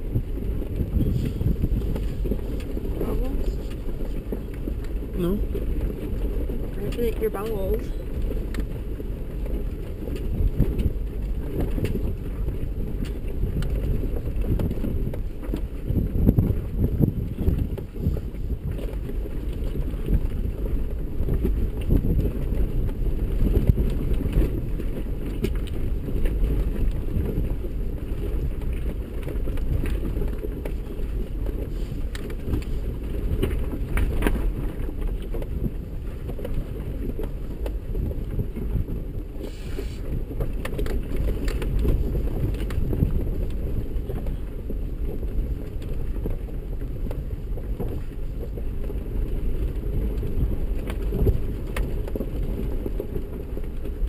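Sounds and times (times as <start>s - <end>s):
engine and drivetrain rumble: 0.0s - 54.0s.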